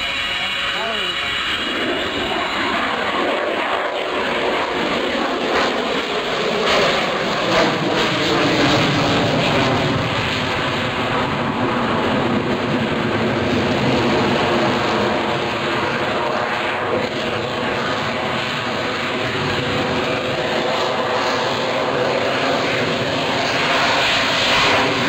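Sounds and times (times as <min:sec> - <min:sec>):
jet engine crackling: 0:00.0 - 0:25.0
jet engines roaring: 0:00.0 - 0:25.0.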